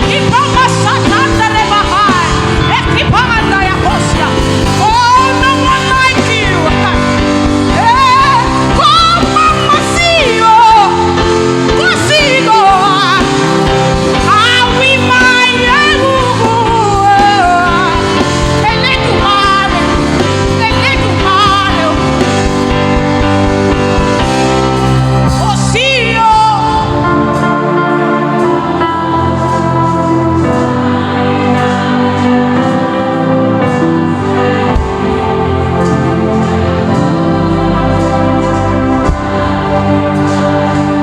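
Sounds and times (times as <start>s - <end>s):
person singing with vibrato: 0.0s - 41.0s
worship band chords: 0.0s - 41.0s.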